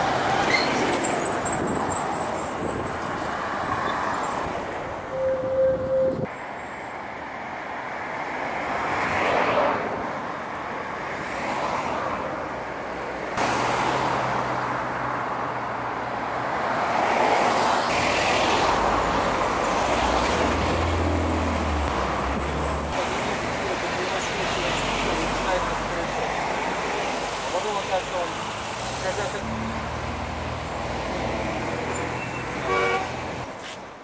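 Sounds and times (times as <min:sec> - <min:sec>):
cars driving past: 0:06.4 - 0:33.8.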